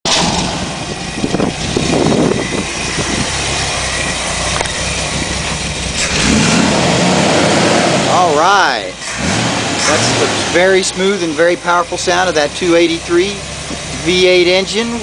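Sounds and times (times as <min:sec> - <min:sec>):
engine running smoothly: 0:00.0 - 0:15.0.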